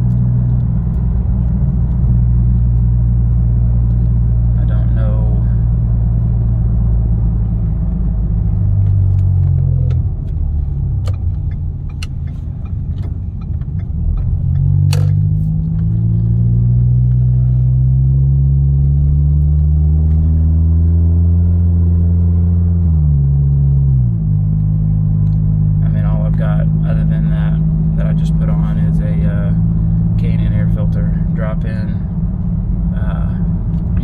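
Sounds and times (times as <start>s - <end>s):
car engine and exhaust droning: 0.0s - 34.0s.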